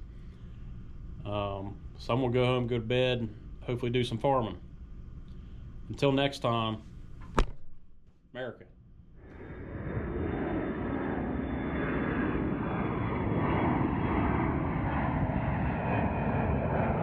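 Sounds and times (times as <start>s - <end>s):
jet engine rumble: 0.0s - 7.2s, 9.1s - 17.0s.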